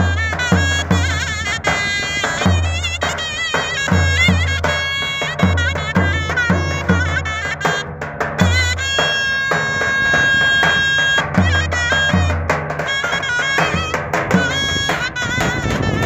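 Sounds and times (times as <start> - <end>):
reedy folk melody on shawm: 0.0 - 16.0.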